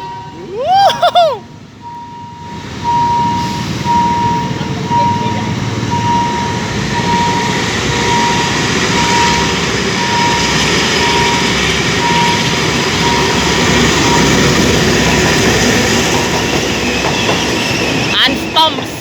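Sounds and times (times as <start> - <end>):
level crossing signal beeping: 0.0 - 0.6, 1.8 - 19.0
diesel train passing: 0.0 - 19.0.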